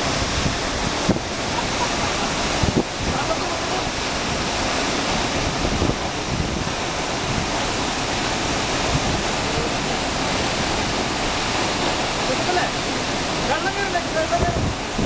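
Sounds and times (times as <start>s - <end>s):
waterfall rushing onto rocks: 0.0s - 15.0s.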